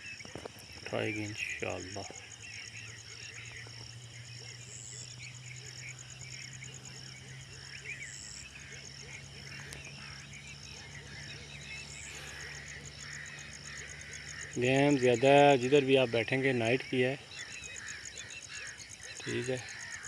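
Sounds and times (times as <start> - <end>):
frogs croaking: 0.0 - 20.0
insects trilling: 0.0 - 20.0.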